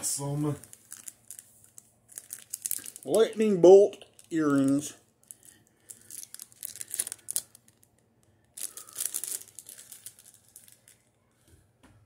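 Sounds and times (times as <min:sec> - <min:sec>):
plastic bags crinkling: 0:00.1 - 0:11.2.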